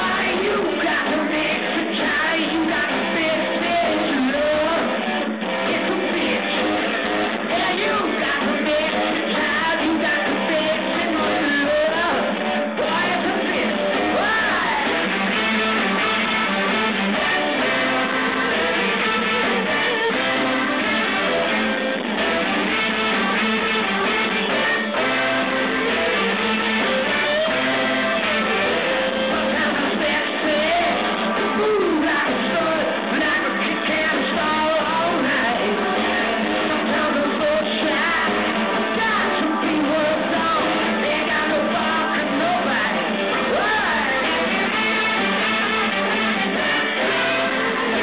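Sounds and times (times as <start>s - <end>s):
live rock and roll band: 0.0s - 48.0s.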